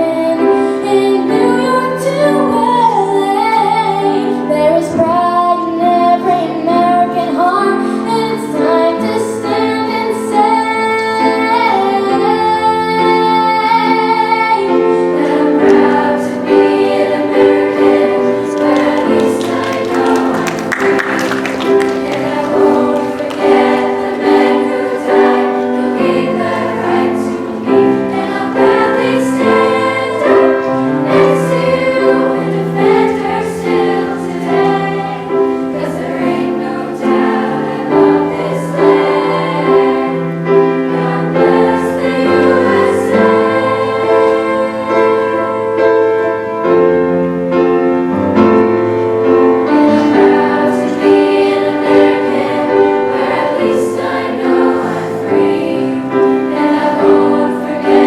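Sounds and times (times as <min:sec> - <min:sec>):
choir singing: 0:00.0 - 0:58.0
piano accompaniment: 0:00.0 - 0:58.0.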